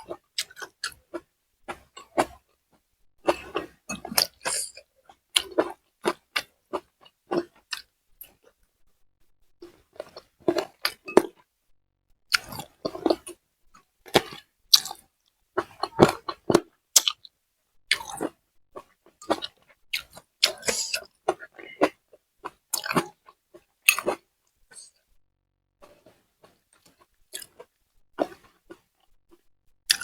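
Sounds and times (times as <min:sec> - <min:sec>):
person chewing and crunching food: 0:00.0 - 0:02.6, 0:03.2 - 0:08.7, 0:09.6 - 0:11.5, 0:12.3 - 0:25.0, 0:25.8 - 0:30.0.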